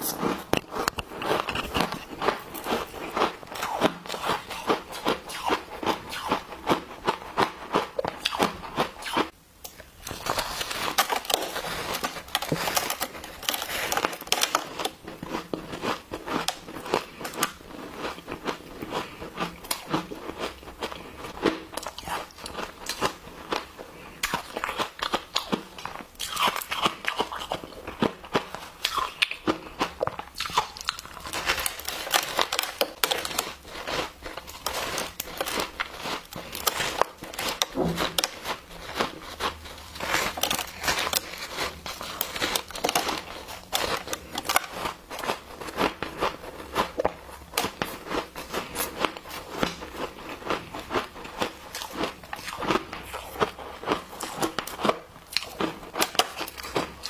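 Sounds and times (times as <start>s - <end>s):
ice crunching as chewed: 0.0s - 57.0s.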